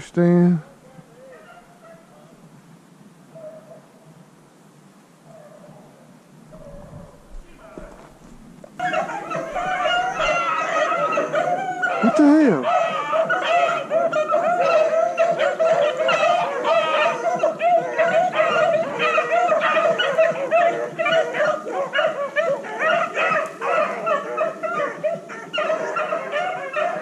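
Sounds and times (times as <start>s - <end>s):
beagles baying: 0.0s - 2.4s, 3.2s - 4.1s, 5.2s - 27.0s.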